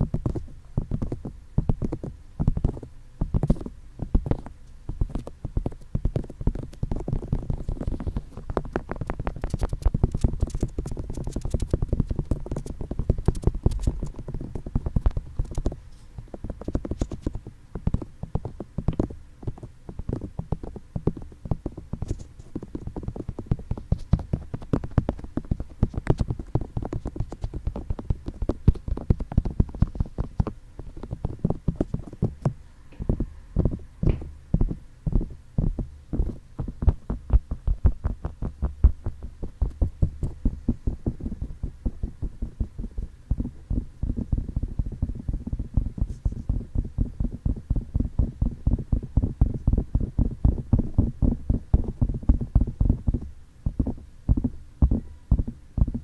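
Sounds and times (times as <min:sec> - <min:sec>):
fingertips tapping microphone: 0:00.0 - 0:56.0.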